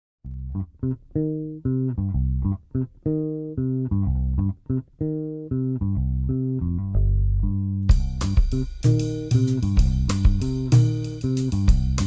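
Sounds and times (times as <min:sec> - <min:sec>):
plucked bass and guitar riff: 0:00.2 - 0:12.0.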